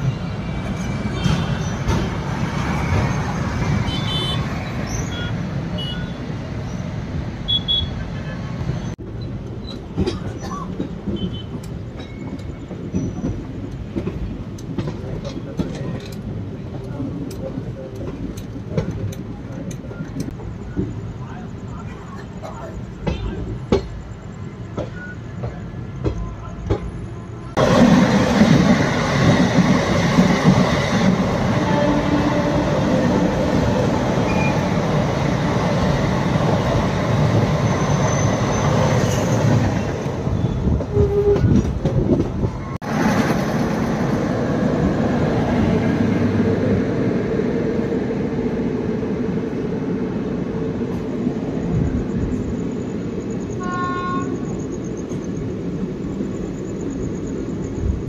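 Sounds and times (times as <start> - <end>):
passing train wheels clattering: 0.0 - 5.7, 9.4 - 58.0
train rumbling on rails: 0.0 - 58.0.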